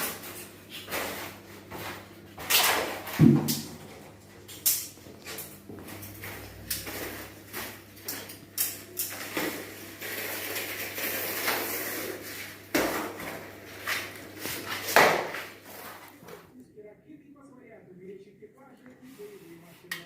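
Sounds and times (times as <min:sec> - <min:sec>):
objects clattering and knocking: 0:00.0 - 0:16.4.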